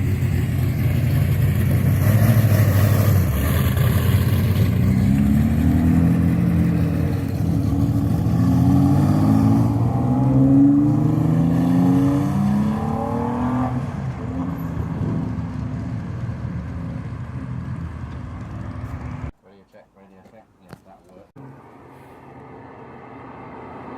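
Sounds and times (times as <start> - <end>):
car engine accelerating: 0.0 - 19.3.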